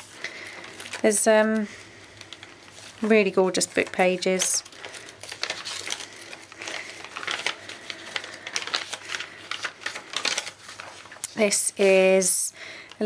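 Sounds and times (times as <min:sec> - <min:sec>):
paper pages rustling: 0:00.0 - 0:12.3.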